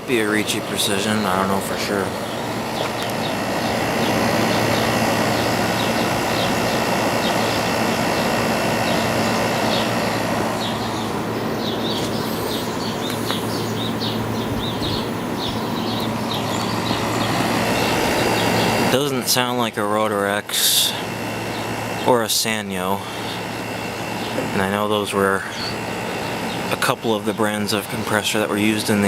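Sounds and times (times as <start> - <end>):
birds chirping: 0.0 - 29.0
window air conditioner humming: 0.0 - 29.0.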